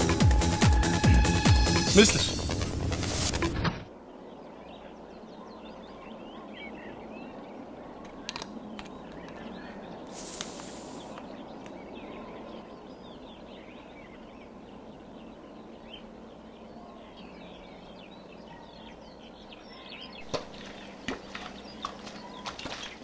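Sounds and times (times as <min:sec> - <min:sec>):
outdoor background hiss: 0:00.0 - 0:23.0
small birds chirping: 0:03.9 - 0:23.0.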